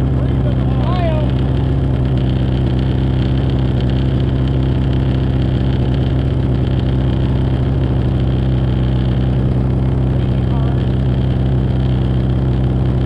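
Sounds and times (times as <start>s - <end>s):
snowmobile engine idling: 0.0s - 13.0s.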